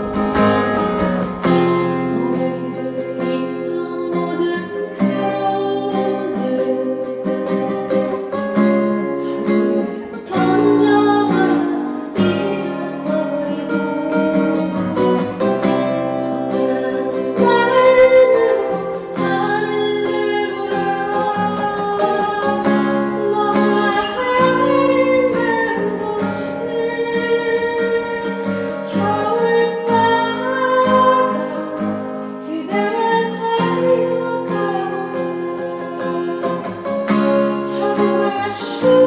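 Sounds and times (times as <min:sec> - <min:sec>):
acoustic guitar melody: 0:00.0 - 0:39.0.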